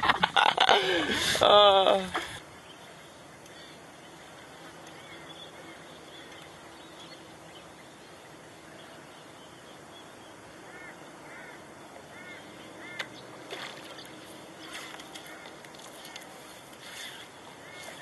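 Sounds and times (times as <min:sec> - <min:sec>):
low hiss: 0:00.0 - 0:18.0
bird calling: 0:01.4 - 0:18.0.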